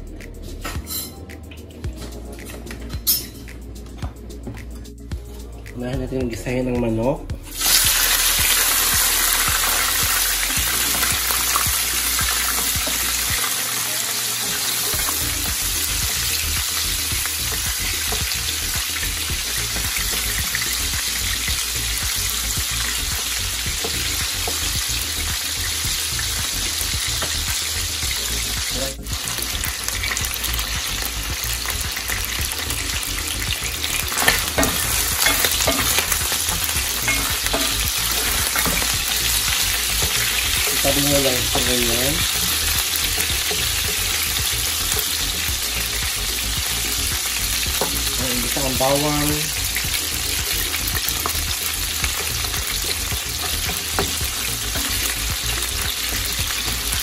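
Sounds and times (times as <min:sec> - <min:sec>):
chicken sizzling in hot oil: 0:07.5 - 0:57.0.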